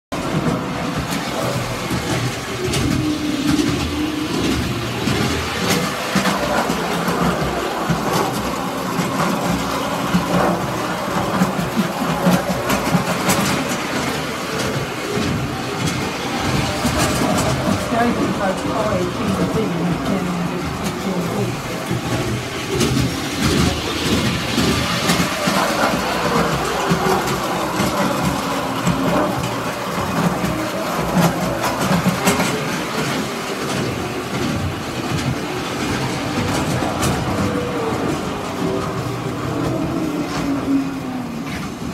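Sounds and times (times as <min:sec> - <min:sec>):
wheels rattling over rails: 0:00.1 - 0:41.9
toy trolley motor humming: 0:00.2 - 0:41.9.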